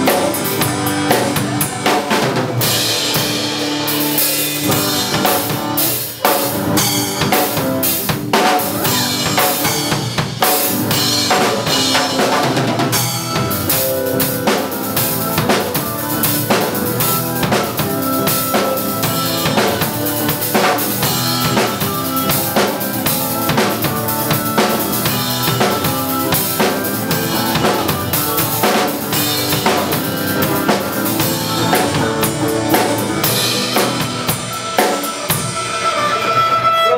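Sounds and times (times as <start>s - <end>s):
drum-kit beat: 0.0s - 36.9s
pitched instruments: 0.0s - 36.9s.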